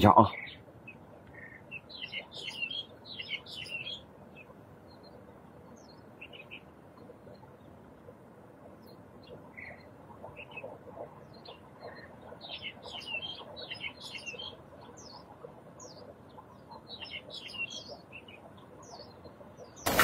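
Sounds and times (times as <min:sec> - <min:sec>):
faint open-air background: 0:00.0 - 0:20.0
small birds chirping: 0:00.0 - 0:20.0.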